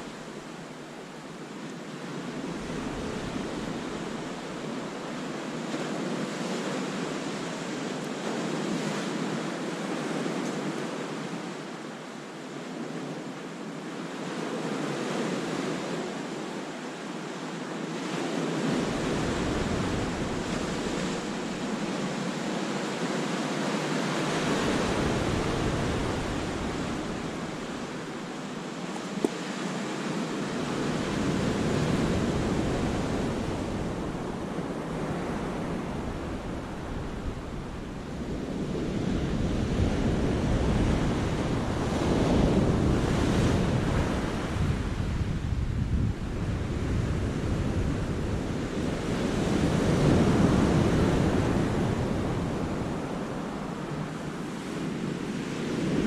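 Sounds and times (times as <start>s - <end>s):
wind rumble on microphone: 1.9s - 11.0s, 18.0s - 56.0s.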